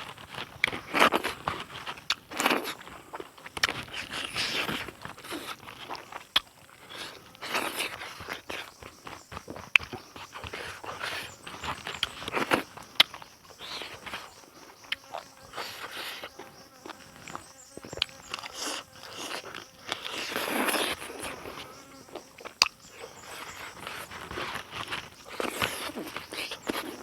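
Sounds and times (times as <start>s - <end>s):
chewing and biting: 0.0s - 27.0s.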